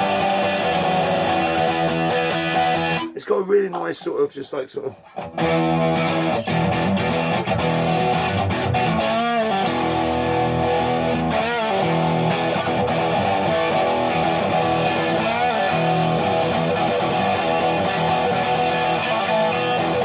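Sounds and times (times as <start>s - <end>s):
distorted electric guitar: 0.0s - 3.2s, 5.2s - 20.0s.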